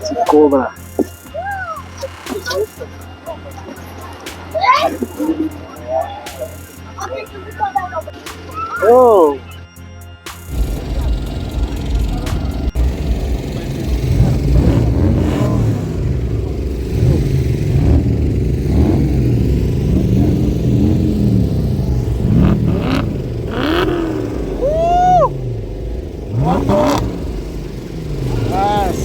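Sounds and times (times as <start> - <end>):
car engine revving: 0.8 - 8.5, 10.3 - 29.0.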